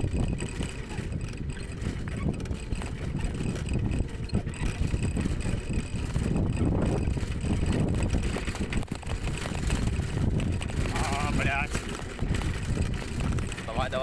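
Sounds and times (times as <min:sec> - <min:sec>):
bicycle rumbling on dirt road: 0:00.0 - 0:14.0
wind on microphone: 0:00.0 - 0:14.0.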